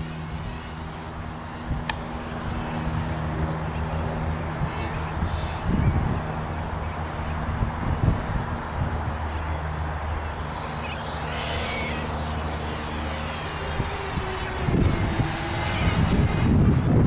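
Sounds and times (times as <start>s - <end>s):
quadcopter propellers buzzing: 0.0s - 17.0s
wind buffeting microphone: 0.0s - 17.0s.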